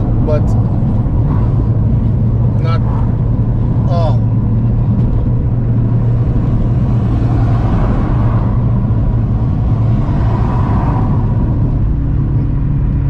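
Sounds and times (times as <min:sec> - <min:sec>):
car engine drone: 0:00.0 - 0:13.0.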